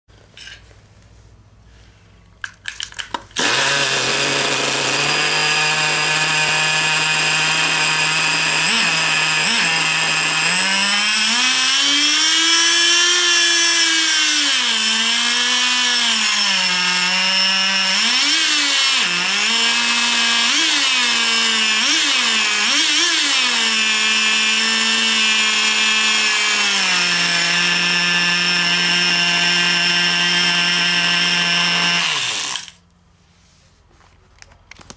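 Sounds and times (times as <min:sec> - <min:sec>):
model car engine revving and idling: 0:03.4 - 0:32.8.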